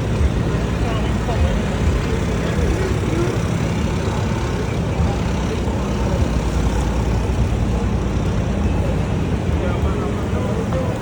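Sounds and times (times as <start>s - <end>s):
faint voices: 0.0s - 11.0s
traffic rumble: 0.0s - 11.0s.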